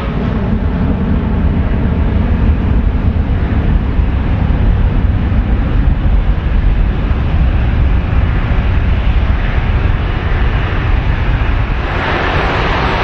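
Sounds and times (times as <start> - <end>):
jet engines deep rumble: 0.0 - 13.0.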